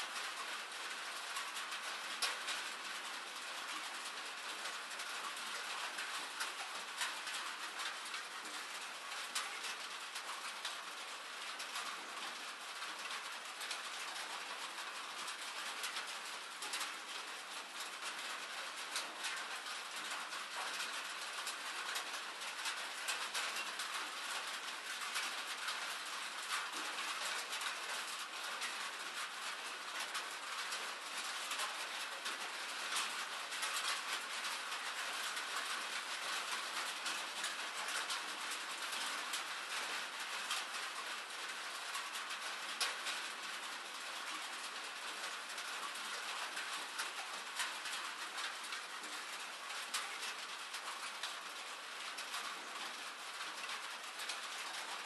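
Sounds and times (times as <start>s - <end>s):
raindrops pattering: 0.0s - 55.0s
steady rain hissing: 0.0s - 55.0s.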